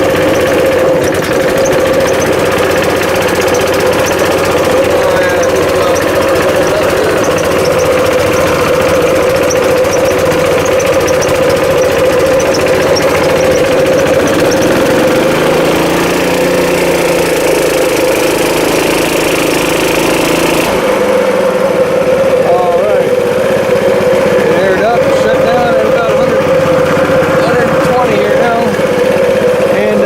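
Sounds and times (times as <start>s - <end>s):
air compressor engine running: 0.0s - 30.0s.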